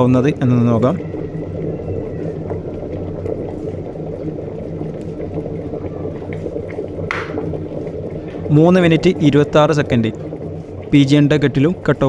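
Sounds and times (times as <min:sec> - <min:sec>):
electric kettle boiling: 0:00.0 - 0:12.0.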